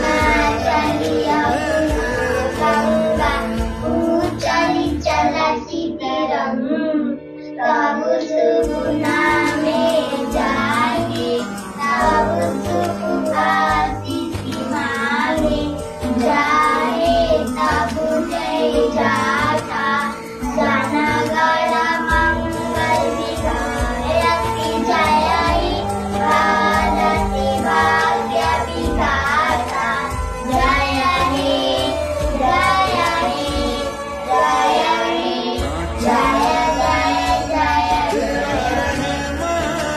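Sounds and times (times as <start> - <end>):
backing music: 0.0 - 39.9
girls singing: 0.0 - 39.9.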